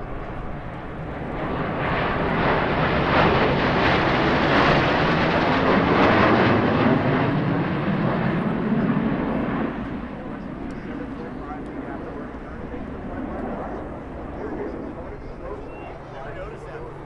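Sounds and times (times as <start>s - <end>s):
jet engines roaring past: 0.0s - 17.0s.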